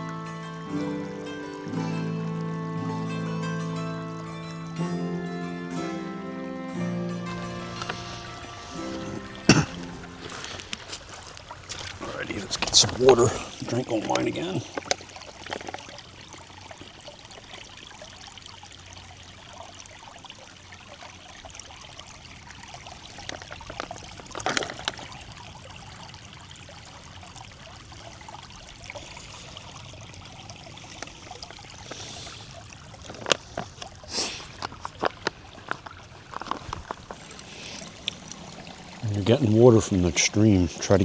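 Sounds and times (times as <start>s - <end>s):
small stream trickling: 0.0s - 41.0s.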